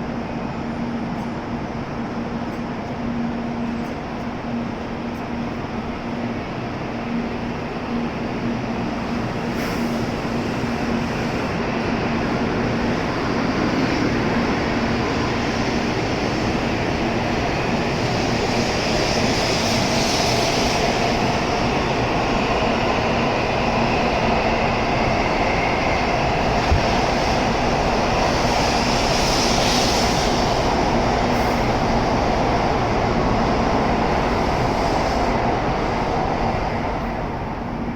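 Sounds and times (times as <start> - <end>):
train pulling out: 4.7 - 37.9.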